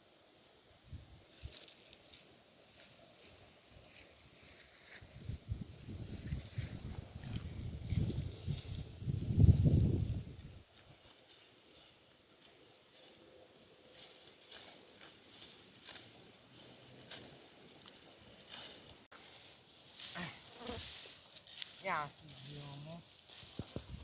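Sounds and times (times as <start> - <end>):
dry grain stalks rustling: 0.2 - 24.0.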